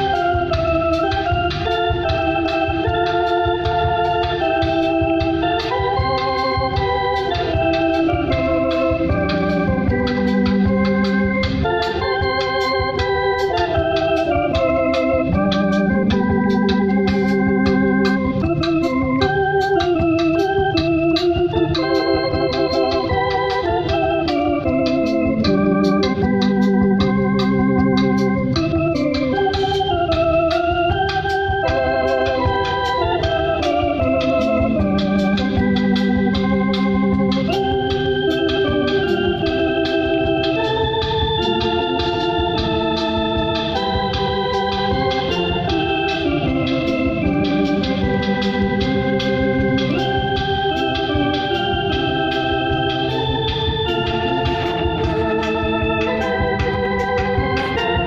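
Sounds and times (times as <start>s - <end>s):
electronic organ playing hymn chords: 0.0s - 58.0s
held low organ note: 0.0s - 58.0s.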